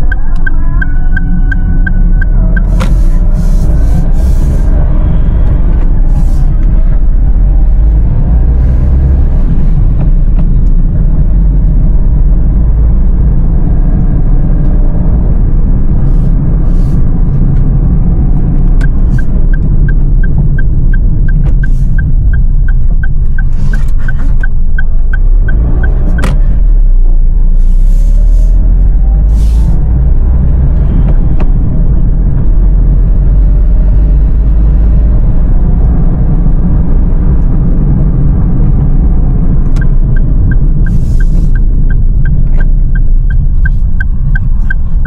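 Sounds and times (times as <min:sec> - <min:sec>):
car engine and road noise: 0:00.0 - 0:45.0
turn signal ticking: 0:00.0 - 0:45.0.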